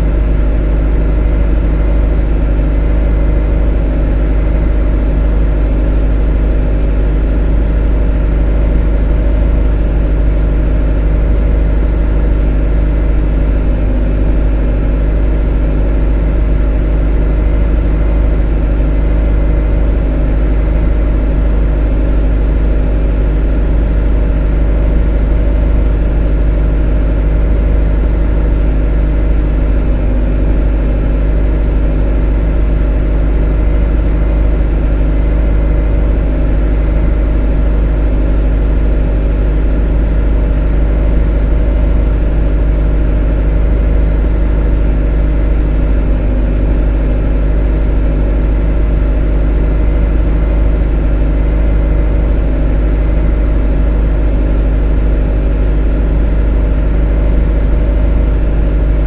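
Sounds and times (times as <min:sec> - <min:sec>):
motor running steadily: 0:00.0 - 0:59.0.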